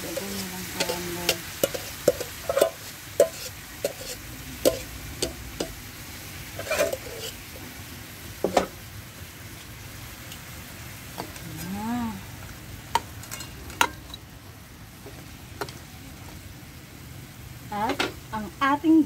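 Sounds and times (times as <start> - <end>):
sauce sizzling and bubbling in pan: 0.0 - 19.0.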